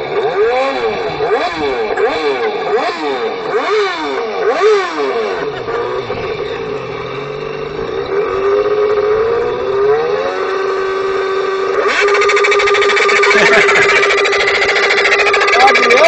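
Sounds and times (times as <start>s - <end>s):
motorcycle engine revving from loudspeaker: 0.0s - 16.0s.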